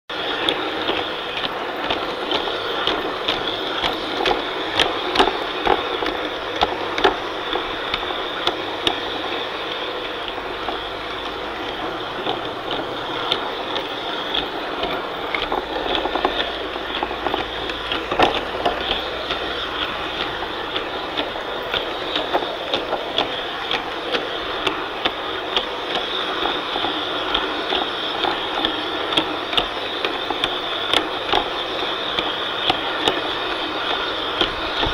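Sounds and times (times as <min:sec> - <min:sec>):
model train wheels clattering: 0:00.1 - 0:34.9.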